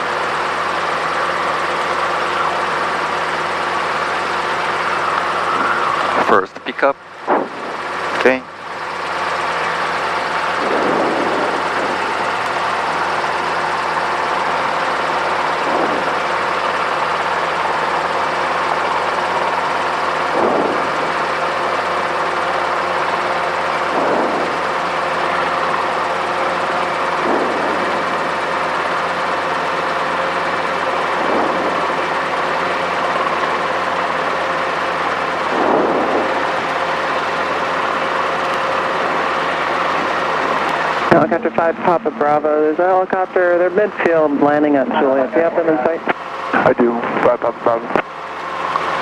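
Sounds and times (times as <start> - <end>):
helicopter engine and rotors: 0.0 - 49.0.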